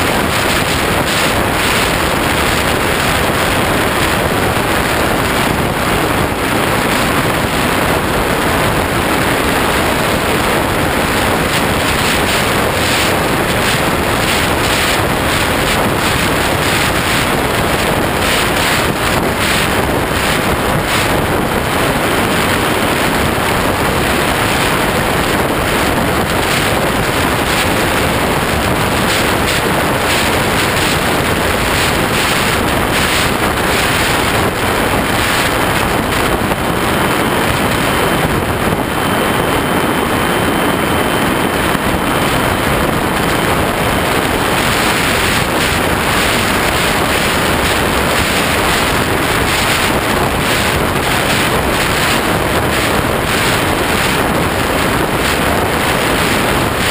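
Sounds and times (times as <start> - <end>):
high ducted fan whine: 0.0 - 56.9
wind buffeting microphone: 0.0 - 56.9.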